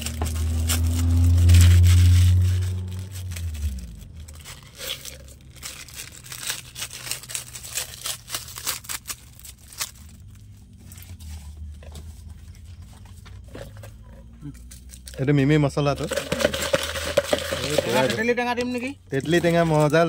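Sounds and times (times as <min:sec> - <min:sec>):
plastic sachets tearing and crinkling: 0:00.0 - 0:11.8, 0:14.4 - 0:20.0.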